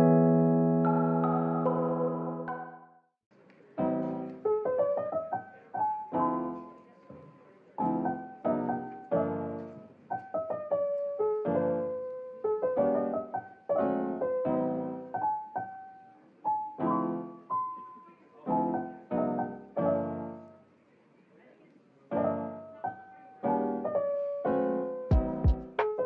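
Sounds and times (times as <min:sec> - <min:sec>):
soft solo piano: 0:00.0 - 0:03.0, 0:03.7 - 0:20.6, 0:22.1 - 0:26.0.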